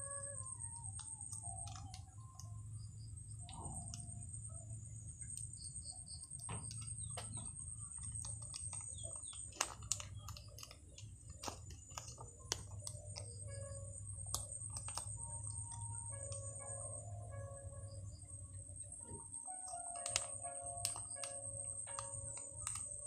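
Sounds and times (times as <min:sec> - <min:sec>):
plastic sachets crinkling: 0:00.0 - 0:02.5, 0:06.5 - 0:23.0
electric fan humming: 0:00.0 - 0:23.0
sharp clicks: 0:00.3 - 0:23.0.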